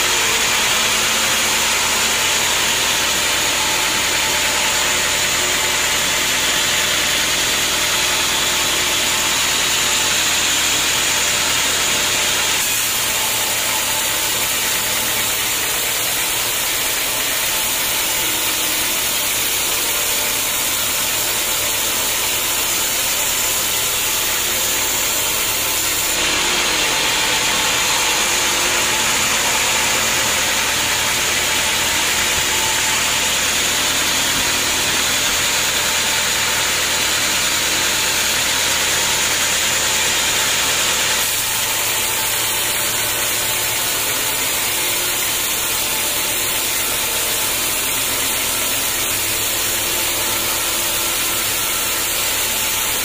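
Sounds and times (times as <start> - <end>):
saw blade cutting log: 0.0 - 53.0
sawmill mechanical hum: 0.0 - 53.0.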